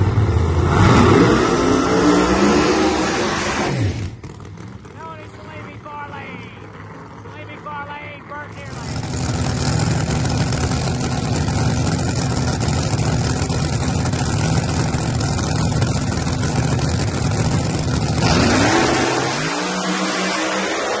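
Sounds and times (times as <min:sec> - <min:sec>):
drag car engine idling and revving: 0:00.0 - 0:21.0.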